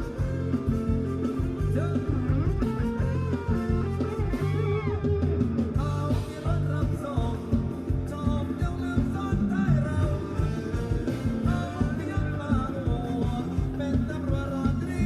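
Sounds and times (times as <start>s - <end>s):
bass: 0.0s - 15.0s
guitar: 0.0s - 15.0s
live band dance music: 0.0s - 15.0s.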